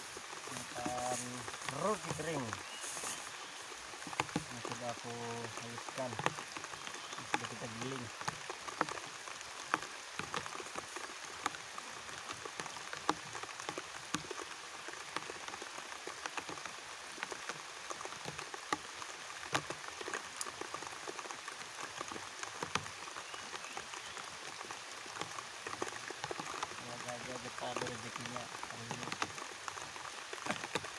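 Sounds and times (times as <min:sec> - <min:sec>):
raindrops ticking close by: 0:00.0 - 0:30.9
steady rain: 0:00.0 - 0:30.9.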